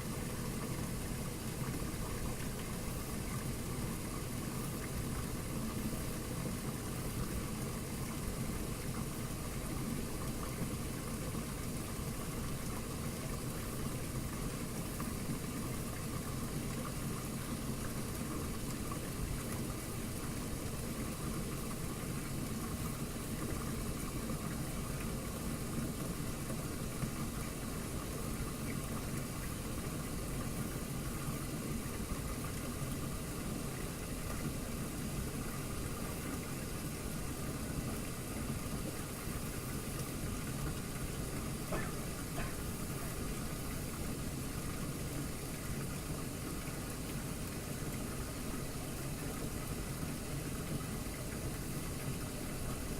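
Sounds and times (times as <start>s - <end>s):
washing machine running: 0.0s - 52.9s.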